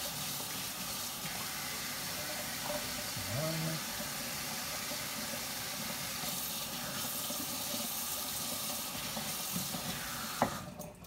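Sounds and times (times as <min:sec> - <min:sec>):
faucet running into steel sink: 0:00.0 - 0:11.0.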